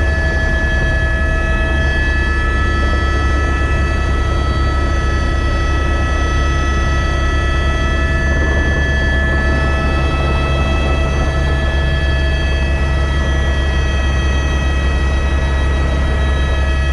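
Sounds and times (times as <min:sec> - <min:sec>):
helicopter engine and rotor drone: 0:00.0 - 0:16.9
high whining tones: 0:00.0 - 0:16.9.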